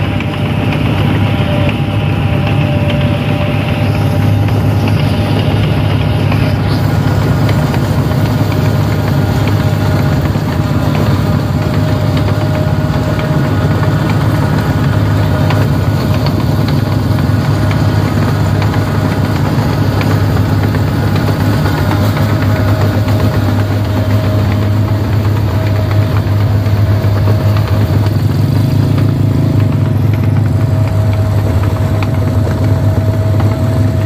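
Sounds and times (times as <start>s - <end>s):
combine harvester diesel engine: 0.0s - 34.0s
steady mechanical whine: 0.0s - 34.0s.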